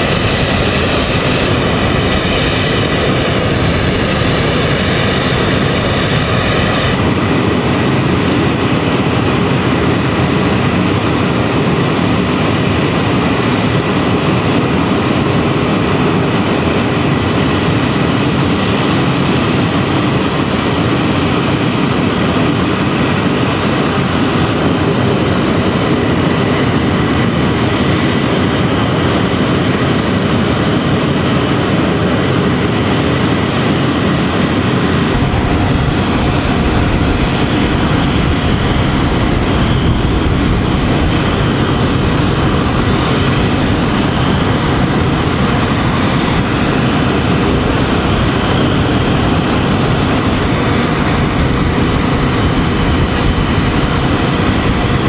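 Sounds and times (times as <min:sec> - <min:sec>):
turboprop engines running: 0:00.0 - 0:55.0.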